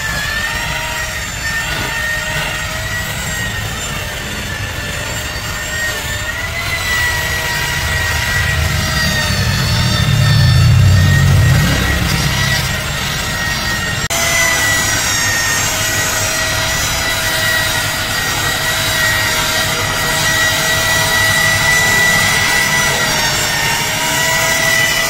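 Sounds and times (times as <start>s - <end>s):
polishing machine high whine: 0.0s - 25.0s.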